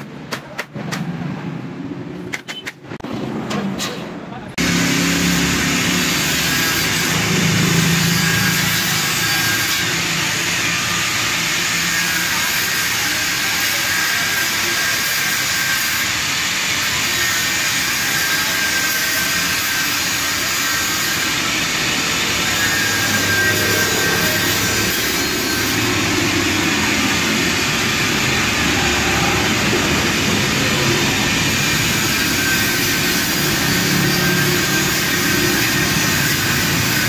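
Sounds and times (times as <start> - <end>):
angle grinder grinding metal: 4.6 - 37.0.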